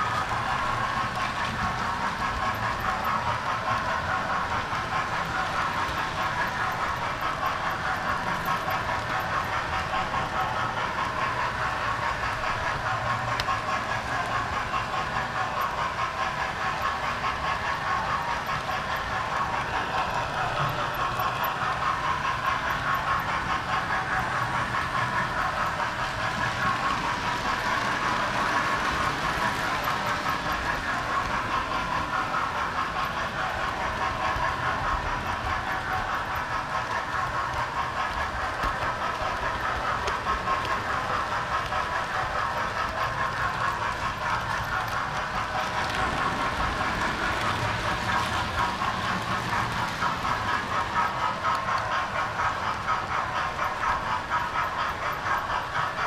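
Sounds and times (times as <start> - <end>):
model train wheels rolling on rails: 0.0 - 56.0.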